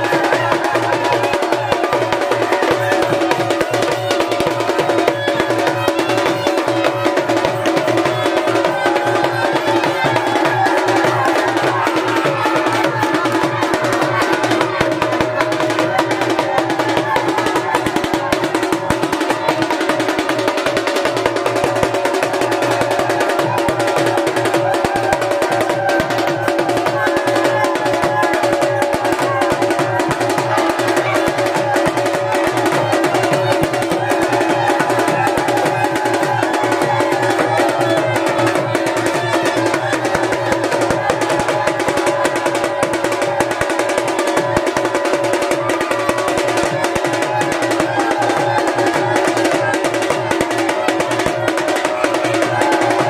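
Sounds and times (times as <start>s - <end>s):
drums beaten fast: 0.0s - 53.0s.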